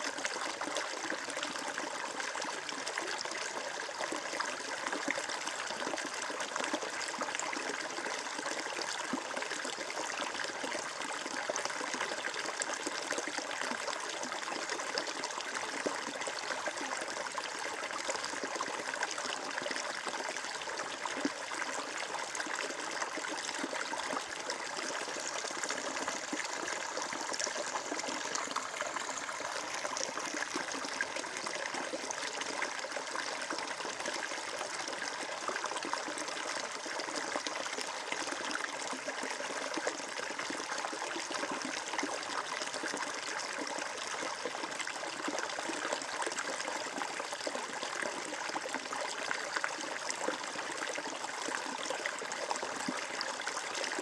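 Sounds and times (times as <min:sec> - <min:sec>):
stream water trickling and babbling: 0:00.0 - 0:54.0.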